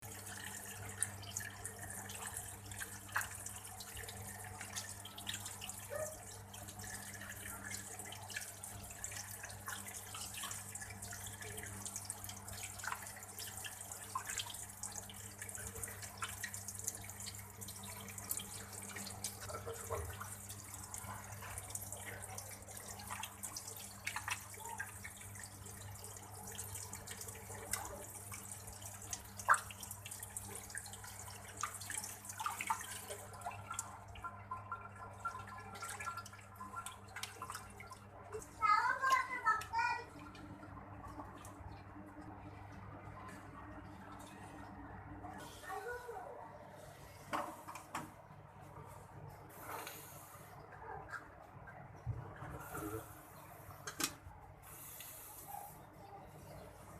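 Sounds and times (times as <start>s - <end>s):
small splashes and drips: 0.0s - 55.7s.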